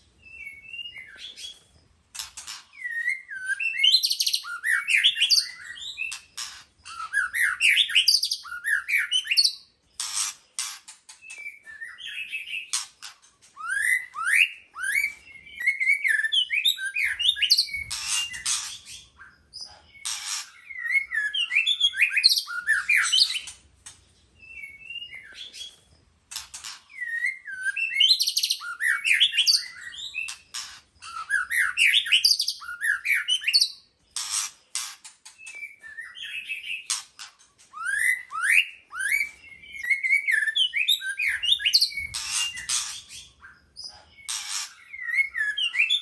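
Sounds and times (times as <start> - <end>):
bird singing whistled notes: 0.2 - 1.6, 2.7 - 6.2, 6.8 - 9.8, 11.2 - 12.8, 13.5 - 23.5, 24.4 - 25.8, 26.9 - 33.9, 35.4 - 37.0, 37.7 - 46.0.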